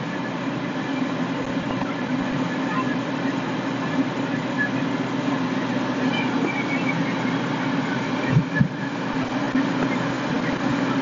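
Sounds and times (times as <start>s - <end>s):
engine-like rumble: 0.0s - 11.0s.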